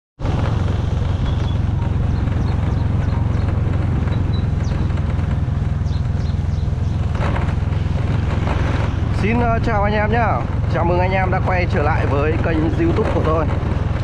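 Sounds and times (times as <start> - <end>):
motorbike engine droning: 0.2 - 14.0
tyre noise on wet road: 0.2 - 14.0.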